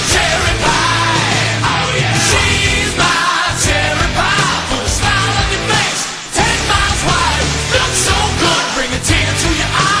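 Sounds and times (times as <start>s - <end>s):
bass line: 0.0s - 10.0s
rock song with vocals: 0.0s - 10.0s.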